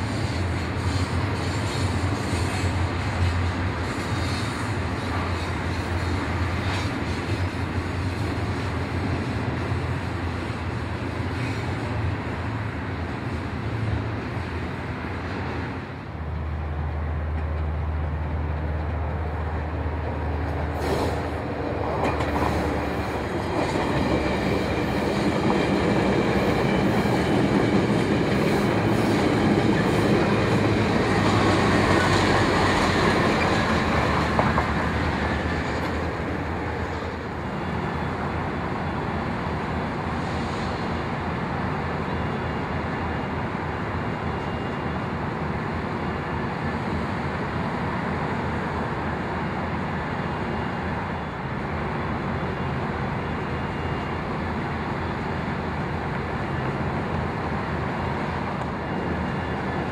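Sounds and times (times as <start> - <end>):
train rolling past on rails: 0.0 - 59.9.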